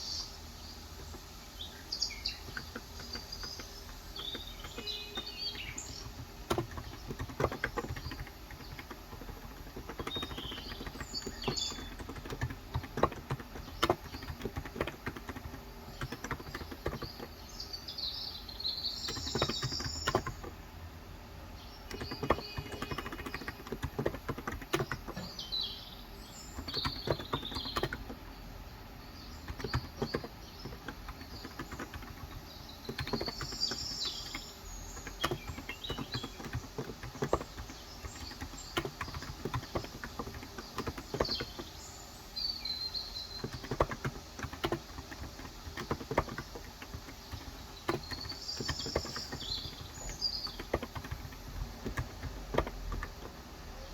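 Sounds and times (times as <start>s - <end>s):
small birds chirping: 0.0s - 53.9s
keyboard typing: 2.2s - 17.5s, 18.9s - 20.6s, 21.8s - 25.5s, 26.4s - 28.3s, 29.2s - 41.9s, 42.8s - 53.9s.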